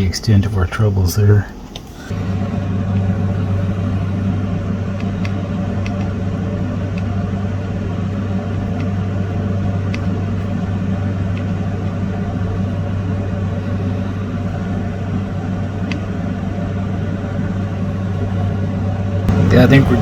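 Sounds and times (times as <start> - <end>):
machine electric hum: 0.0 - 20.0.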